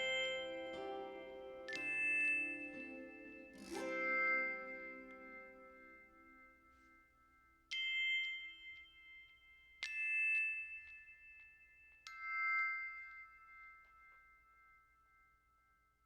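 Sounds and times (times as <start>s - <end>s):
ringing bell-like notes: 0.0s - 16.0s.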